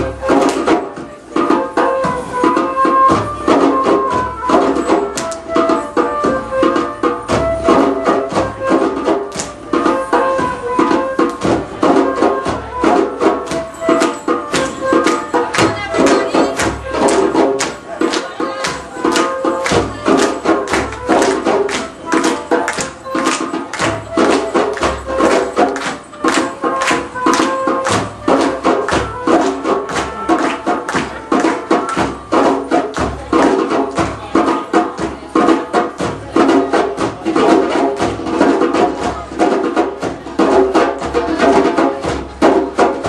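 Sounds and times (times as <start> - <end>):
hand drums playing dance rhythm: 0.0 - 43.0.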